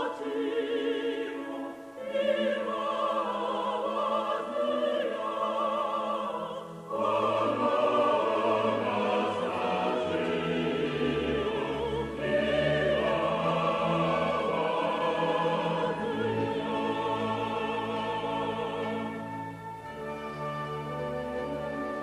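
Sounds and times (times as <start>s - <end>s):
classical voices singing a hymn: 0.0s - 22.0s.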